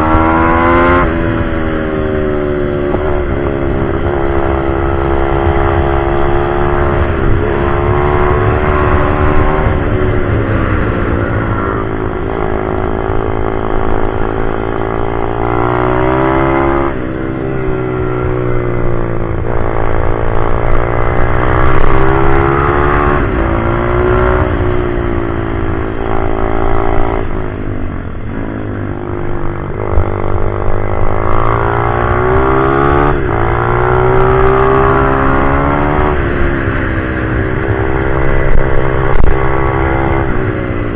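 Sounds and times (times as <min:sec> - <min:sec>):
pit bike engine revving: 0:00.0 - 0:27.4, 0:28.3 - 0:40.5.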